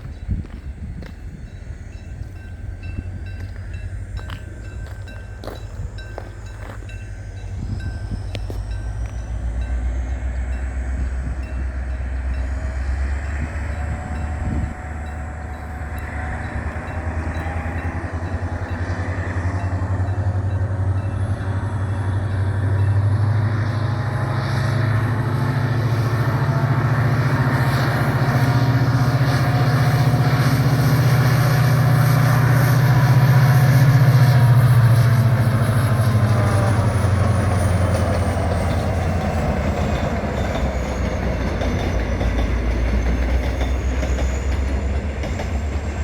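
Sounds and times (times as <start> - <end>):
train running: 0.0 - 46.0.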